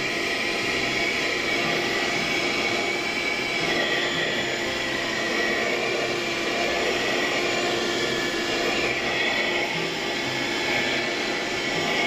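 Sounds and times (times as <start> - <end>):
handheld vacuum cleaner whine: 0.0 - 12.0.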